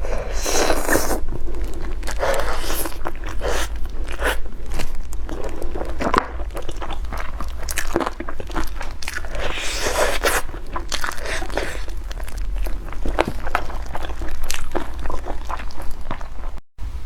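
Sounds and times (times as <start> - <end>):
crunchy chewing of food: 0.0 - 16.6.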